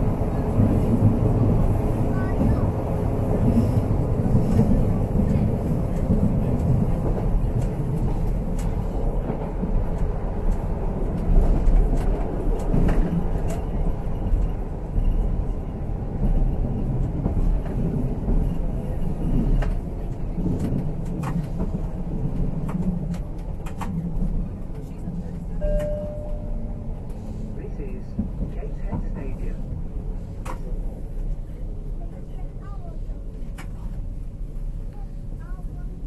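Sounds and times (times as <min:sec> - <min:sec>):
train clicks and rattles: 0:00.0 - 0:36.0
train interior rumble: 0:00.0 - 0:36.0.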